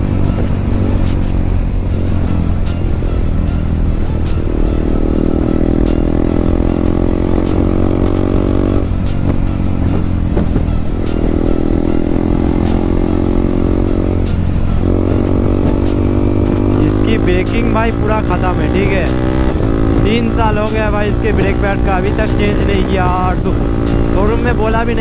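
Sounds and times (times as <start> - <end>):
motorcycle engine through loud exhaust: 0.0 - 25.0.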